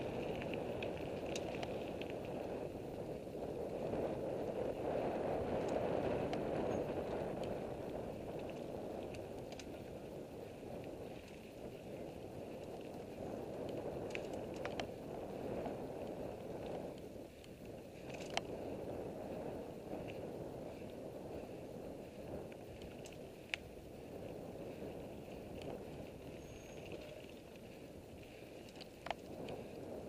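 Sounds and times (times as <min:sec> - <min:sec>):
bike clicks and rattles: 0:00.0 - 0:30.0
bike tyres rolling on dirt: 0:00.0 - 0:30.0
wind on microphone: 0:00.0 - 0:30.0.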